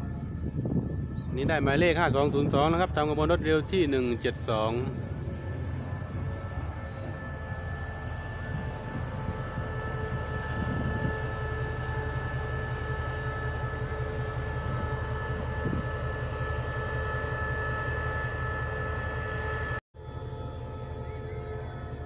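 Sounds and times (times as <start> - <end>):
locomotive engine rumble: 0.0 - 22.0
locomotive whine: 0.0 - 22.0.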